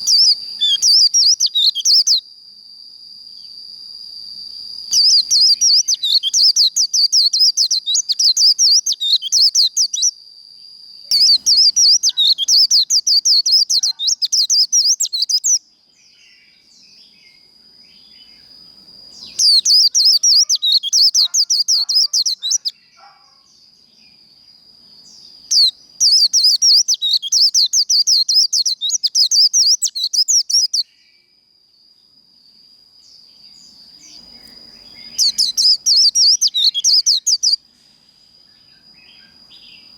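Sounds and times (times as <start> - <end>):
bird twittering song: 0.0 - 2.2, 4.9 - 10.2, 11.1 - 31.2, 33.1 - 37.7.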